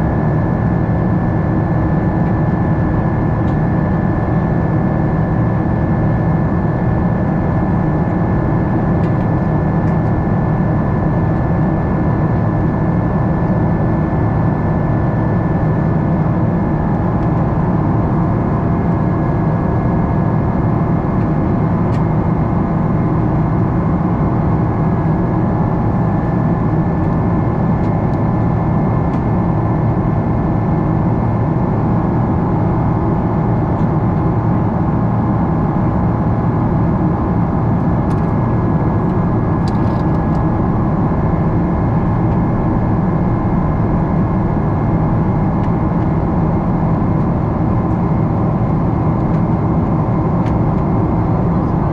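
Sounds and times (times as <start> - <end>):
airliner cabin drone: 0.0 - 51.9.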